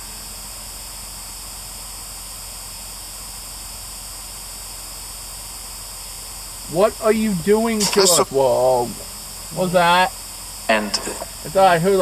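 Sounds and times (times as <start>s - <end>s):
steady static hiss: 0.0s - 12.0s.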